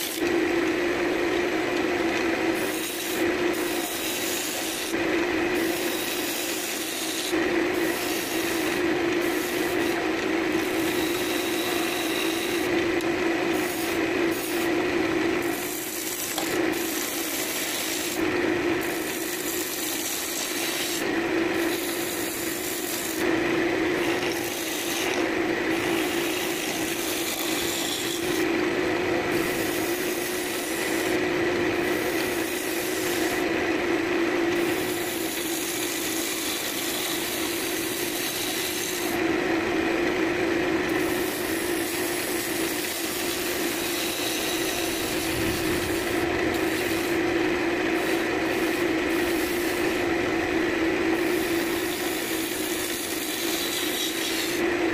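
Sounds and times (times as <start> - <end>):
chisel scraping spinning wood: 0.0 - 33.6, 34.5 - 39.2, 40.9 - 50.2, 51.1 - 54.8
wood lathe humming: 0.0 - 54.9.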